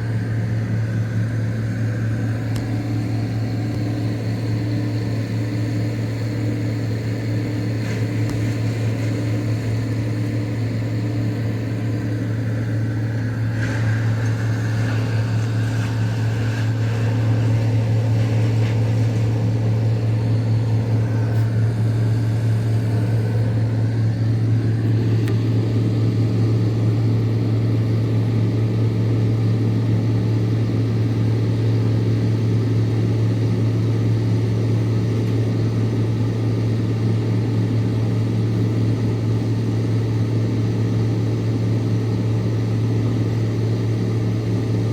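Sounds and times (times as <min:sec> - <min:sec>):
tree chipper engine humming: 0:00.0 - 0:44.9.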